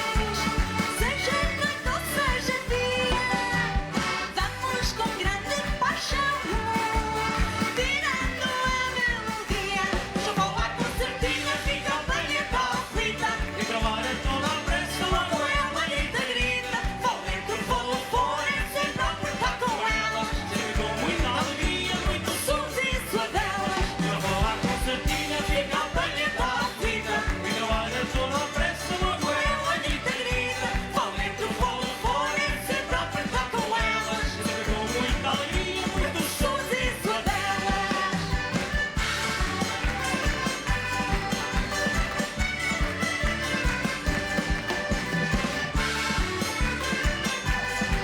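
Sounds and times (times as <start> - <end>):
button accordions playing: 0.0 - 48.0
people singing: 0.0 - 48.0
steady beat: 0.0 - 48.0.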